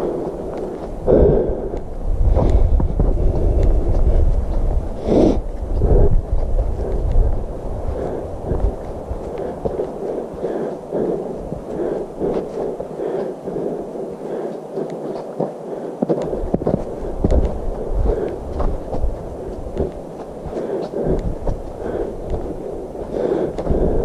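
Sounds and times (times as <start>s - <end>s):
footsteps on dirt and snow: 0.0s - 24.0s
wind rumble on microphone: 0.0s - 24.0s.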